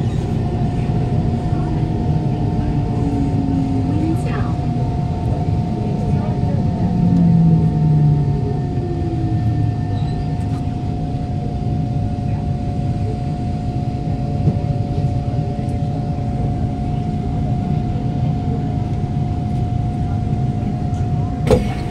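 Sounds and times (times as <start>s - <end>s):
train car rumbling to a stop: 0.0s - 21.9s.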